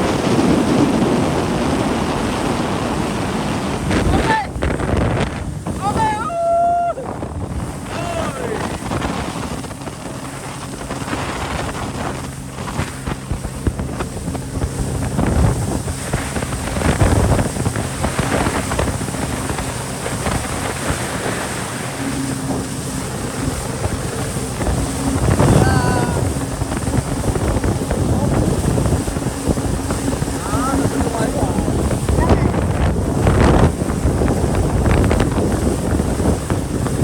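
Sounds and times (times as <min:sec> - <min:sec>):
jet ski engine drone: 0:00.0 - 0:37.0
rushing water: 0:00.0 - 0:37.0
wind buffeting microphone: 0:00.0 - 0:37.0.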